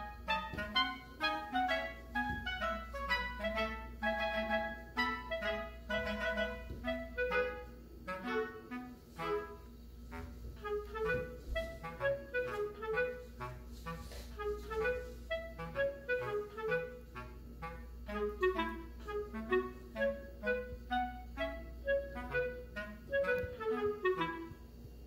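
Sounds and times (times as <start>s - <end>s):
woodwind melody with accompaniment: 0.0s - 25.0s.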